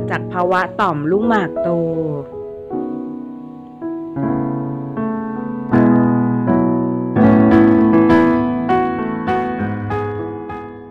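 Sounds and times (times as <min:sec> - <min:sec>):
higher piano notes: 0:00.0 - 0:10.9
piano chords ringing: 0:00.0 - 0:10.9.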